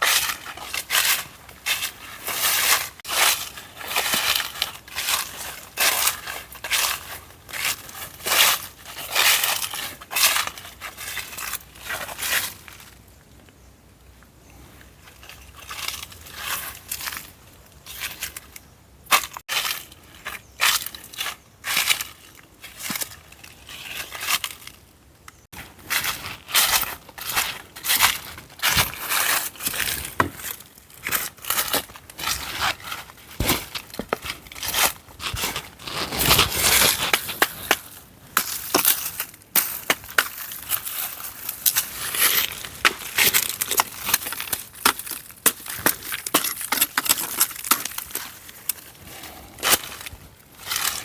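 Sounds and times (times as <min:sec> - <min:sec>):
dry leaves and twigs crunching: 0:00.0 - 0:13.6, 0:14.8 - 0:51.0.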